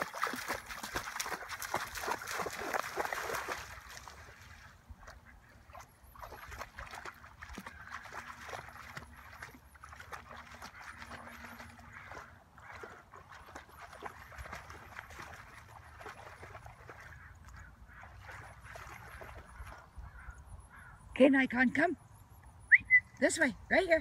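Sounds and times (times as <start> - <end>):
dog splashing through water: 0.0 - 20.3.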